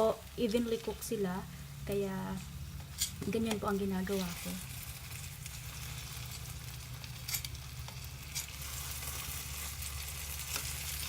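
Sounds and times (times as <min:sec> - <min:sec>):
low steady hum: 0:00.0 - 0:11.0
spring rolls sizzling in hot oil: 0:00.0 - 0:11.0.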